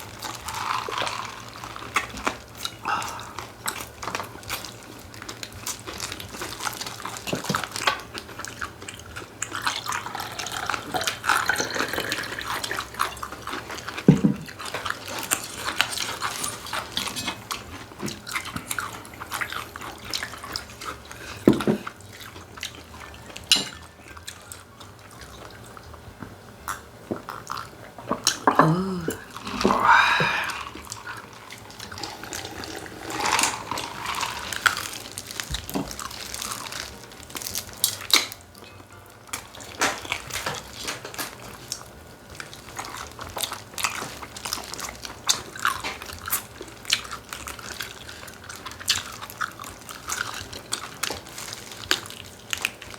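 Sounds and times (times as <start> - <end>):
wet chewing and smacking: 0.0 - 52.9.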